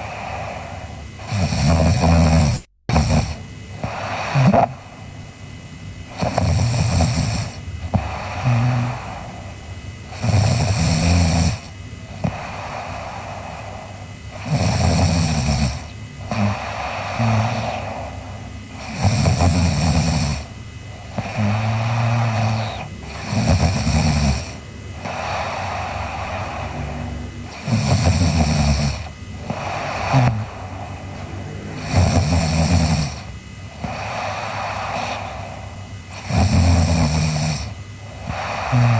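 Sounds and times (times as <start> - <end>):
girl snoring: 0.0 - 5.0, 6.1 - 38.9.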